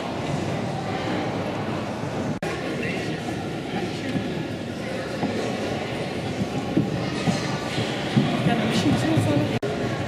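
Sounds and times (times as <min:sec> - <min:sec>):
indistinct chatter: 0:00.0 - 0:10.0.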